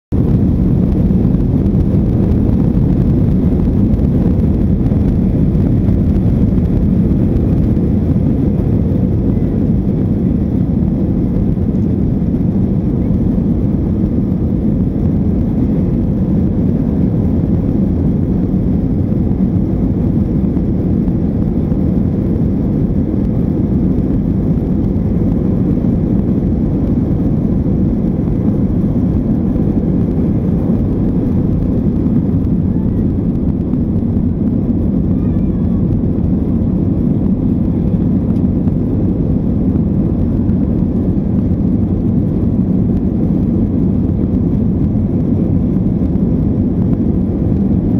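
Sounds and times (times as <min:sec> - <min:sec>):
airliner engines rumbling: 0:00.1 - 0:47.9
faint steady hum: 0:00.1 - 0:47.9.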